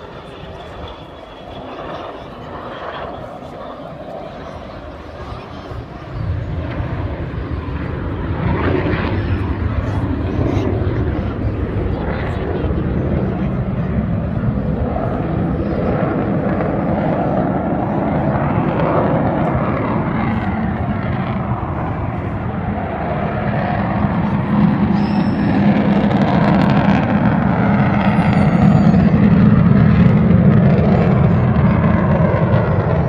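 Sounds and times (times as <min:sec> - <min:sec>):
jet aircraft flypast rumble: 0:00.0 - 0:33.0.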